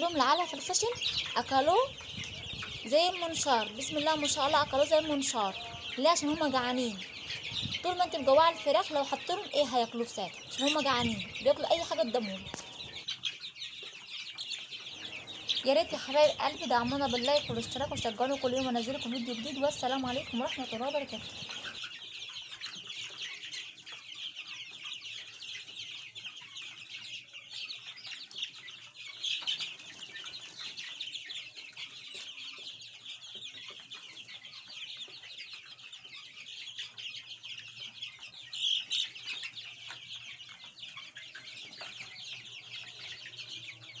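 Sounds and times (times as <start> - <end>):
chicks peeping: 0.0 - 44.0.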